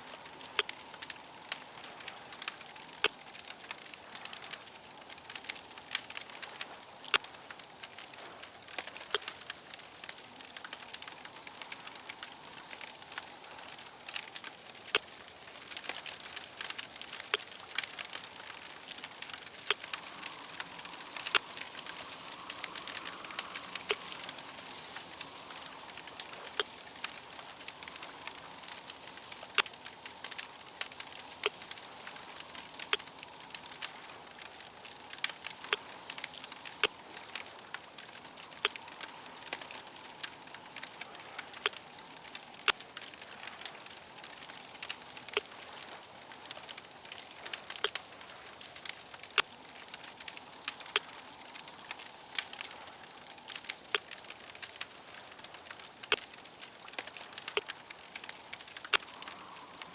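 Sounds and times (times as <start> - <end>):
fire crackling and popping: 0.0 - 59.9
steady hiss: 0.0 - 59.9.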